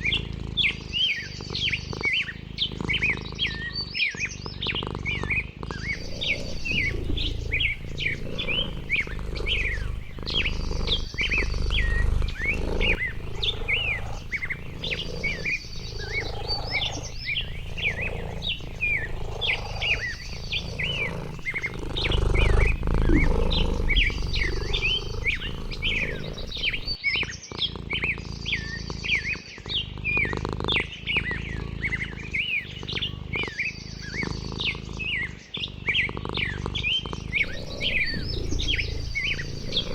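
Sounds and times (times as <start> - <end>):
high bird trill: 0.0 - 27.4, 28.0 - 39.9
small birds chirping: 0.0 - 39.9.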